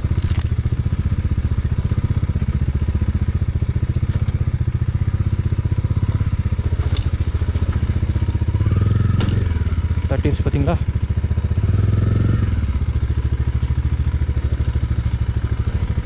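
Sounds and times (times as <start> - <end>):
bike rattling: 0.0 - 16.0
motorcycle engine running: 0.0 - 16.0.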